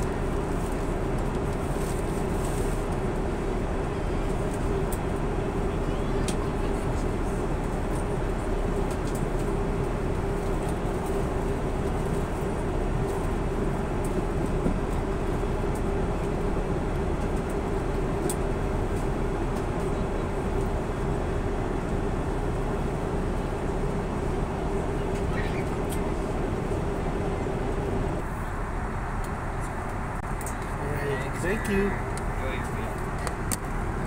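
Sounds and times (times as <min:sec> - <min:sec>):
airliner cabin engine drone: 0:00.0 - 0:34.0.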